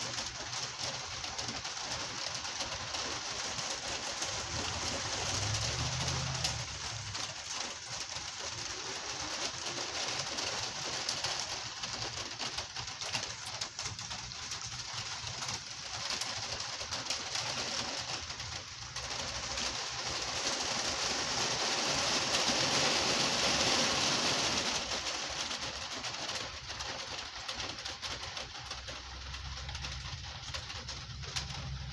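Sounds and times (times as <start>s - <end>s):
gentle rain falling: 0.0s - 31.9s.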